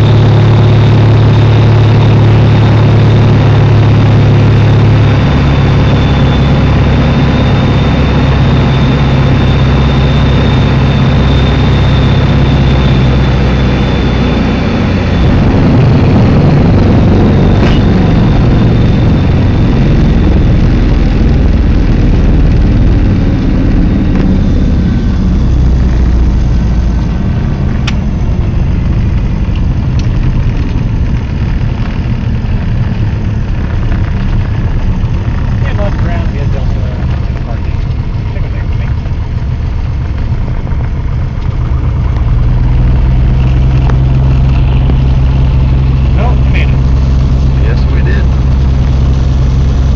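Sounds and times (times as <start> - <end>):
aircraft engine and propeller drone: 0.0 - 49.9
wheels rumbling on runway: 0.0 - 49.9.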